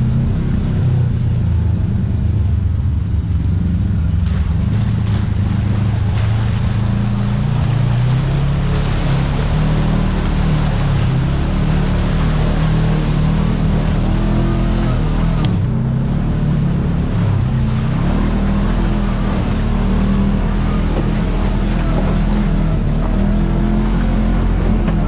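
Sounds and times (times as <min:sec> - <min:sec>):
engine running under varying throttle: 0:00.0 - 0:25.0.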